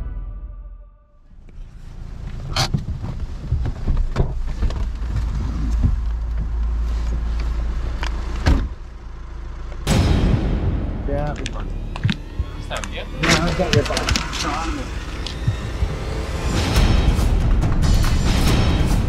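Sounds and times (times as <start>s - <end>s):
truck engine and road rumble: 1.2s - 19.0s.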